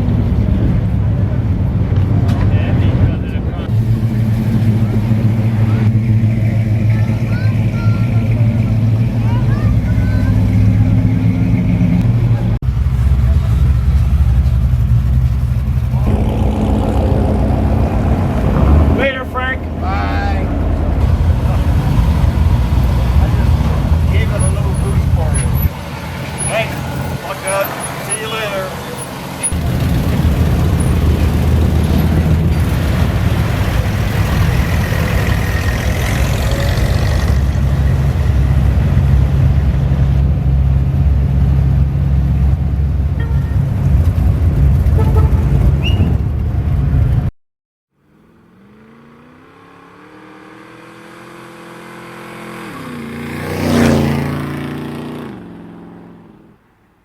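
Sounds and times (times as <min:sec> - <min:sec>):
car engine rumbling: 0:00.0 - 0:47.3
vehicle passing by: 0:00.0 - 0:47.3, 0:48.0 - 0:56.6.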